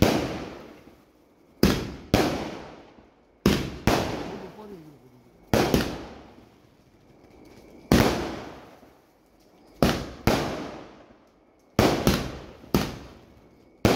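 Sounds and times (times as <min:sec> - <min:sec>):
firecrackers banging: 0:00.0 - 0:01.0, 0:01.6 - 0:04.8, 0:05.5 - 0:06.7, 0:07.5 - 0:13.9.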